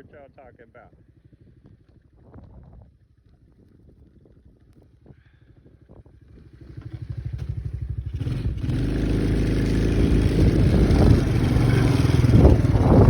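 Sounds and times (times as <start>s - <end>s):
quad bike engine: 0.0s - 13.0s.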